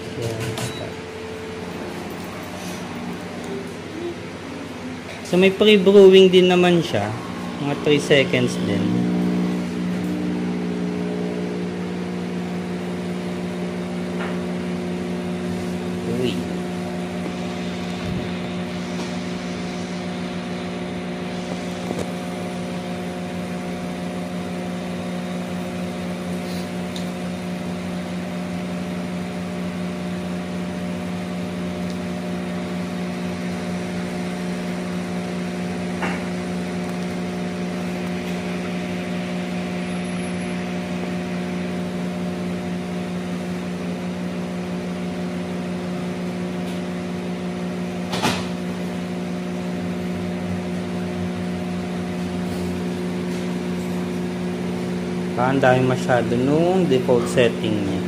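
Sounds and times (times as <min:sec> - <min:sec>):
espresso machine pump humming: 0:00.0 - 0:58.0.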